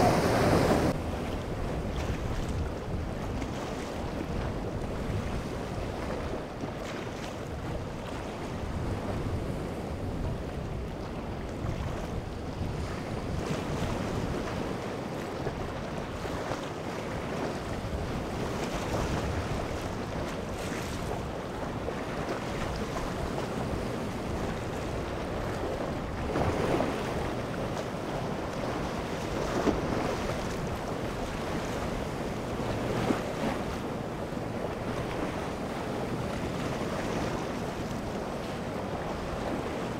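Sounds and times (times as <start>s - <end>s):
surf washing against rocks: 0.0s - 39.9s
wind on microphone: 0.0s - 39.9s.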